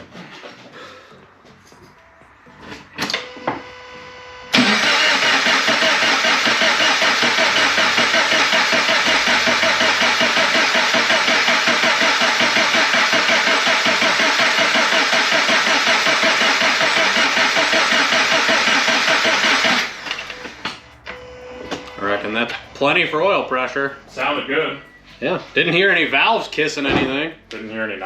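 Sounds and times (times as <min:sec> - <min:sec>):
engine cranking by starter motor: 0:04.5 - 0:27.3.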